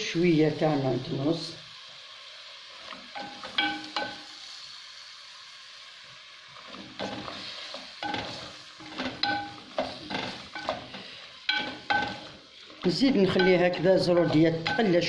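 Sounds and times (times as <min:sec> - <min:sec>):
vegetables sizzling: 0:00.0 - 0:15.0.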